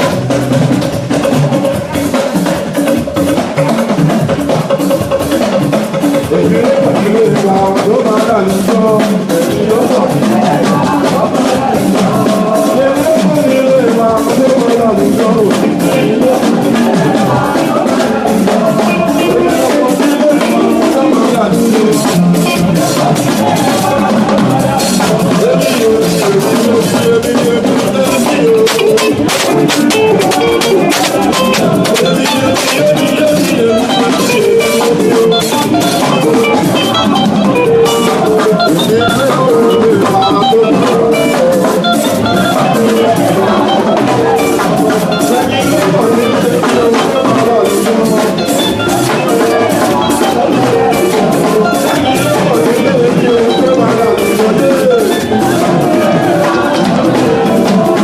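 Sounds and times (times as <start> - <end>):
band melody: 0.0 - 58.0
drum kit beat: 0.0 - 58.0
people singing praise: 0.0 - 58.0.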